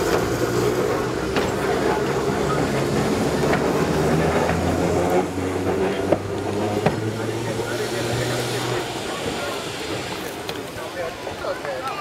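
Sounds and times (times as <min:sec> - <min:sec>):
electric tram running on rails: 0:00.0 - 0:12.0.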